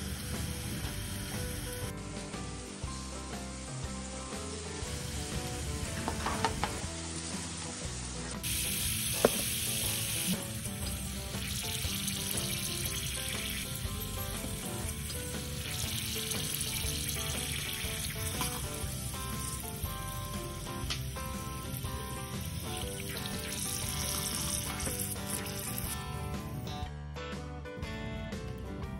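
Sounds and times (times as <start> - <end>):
potatoes sizzling in oil: 0.0 - 3.8, 4.4 - 26.4.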